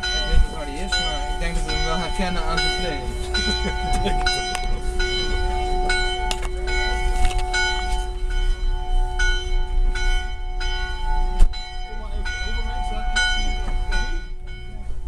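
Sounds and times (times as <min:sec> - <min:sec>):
church bells tolling: 0:00.0 - 0:15.0
steady low rumble: 0:00.0 - 0:15.0.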